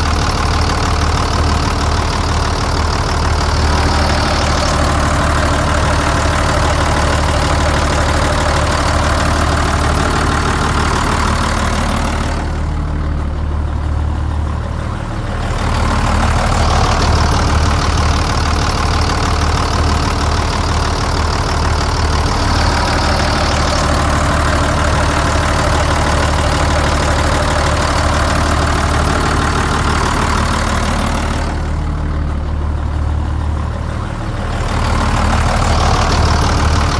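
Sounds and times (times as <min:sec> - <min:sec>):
truck diesel engine idling: 0:00.0 - 0:36.9.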